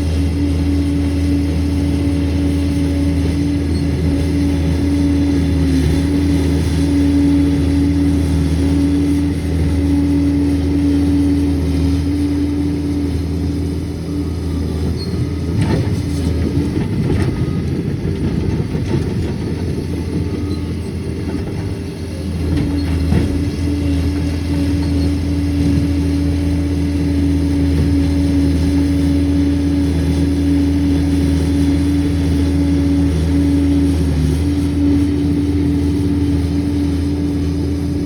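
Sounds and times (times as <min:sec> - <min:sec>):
dozer diesel engine under load: 0:00.0 - 0:38.0.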